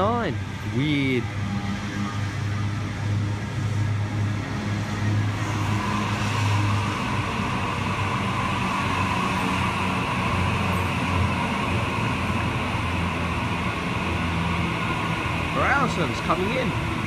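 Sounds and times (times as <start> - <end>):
electric train running: 0.0 - 17.0.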